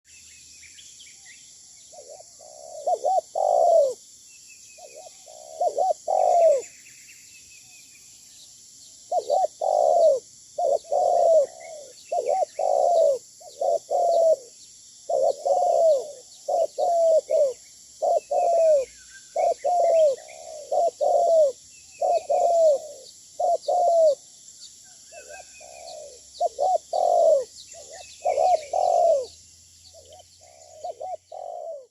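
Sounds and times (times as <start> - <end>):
small birds chirping: 0.0 - 31.9
doves cooing: 1.9 - 4.0, 4.8 - 6.8, 9.1 - 24.3, 25.1 - 31.9.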